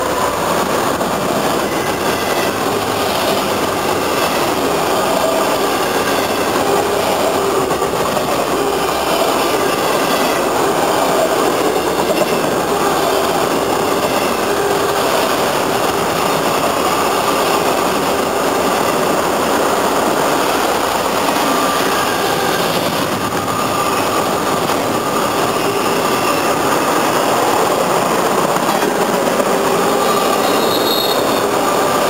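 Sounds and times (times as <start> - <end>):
train wheels rushing on rails: 0.0 - 32.0.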